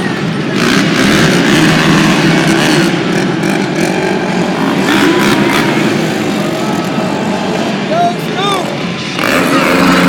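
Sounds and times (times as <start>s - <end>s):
atv engines running: 0.0s - 10.0s.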